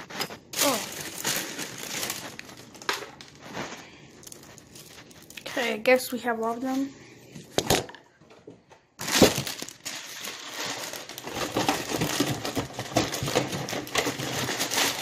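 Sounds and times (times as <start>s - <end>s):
plastic bag crinkling: 0.0s - 6.0s, 9.0s - 15.0s.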